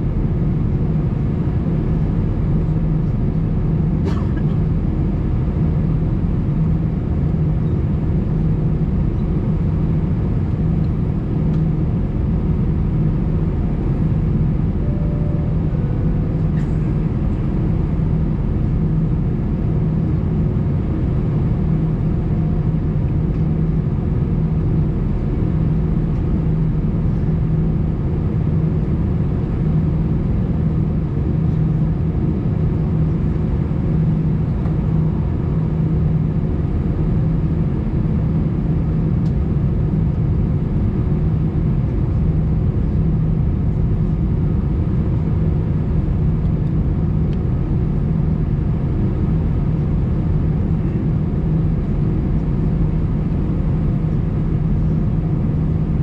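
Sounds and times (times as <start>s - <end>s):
aircraft cabin drone: 0.0s - 56.0s.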